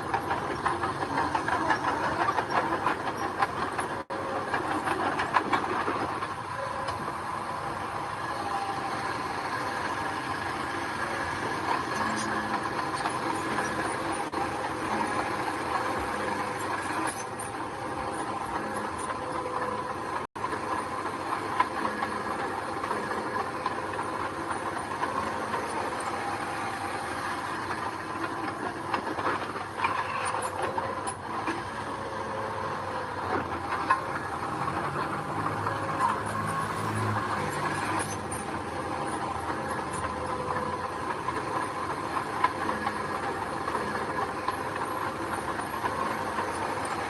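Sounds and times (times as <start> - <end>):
heavy machinery rattling: 0.0 - 47.0
steady whine: 0.0 - 47.0.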